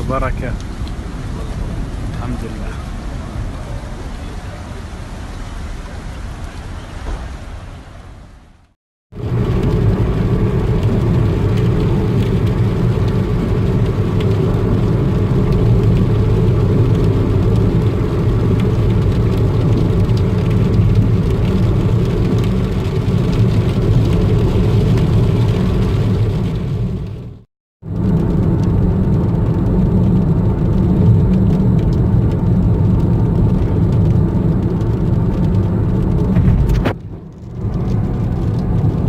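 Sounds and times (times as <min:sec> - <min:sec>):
heavy rain and wind: 0:00.0 - 0:39.0.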